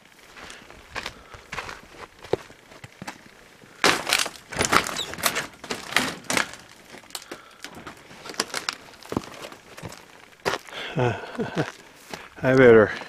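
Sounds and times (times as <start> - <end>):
footsteps crunching on littered floor: 0.0 - 13.0.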